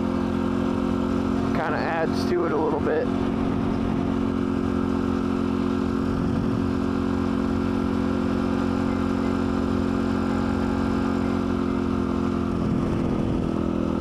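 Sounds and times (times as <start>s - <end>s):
pit bike engine running: 0.0s - 14.0s.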